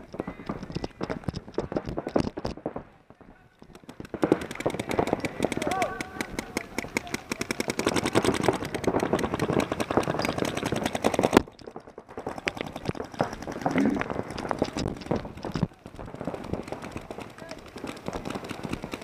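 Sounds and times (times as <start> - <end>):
paintball markers firing: 0.0 - 2.7, 3.6 - 19.0.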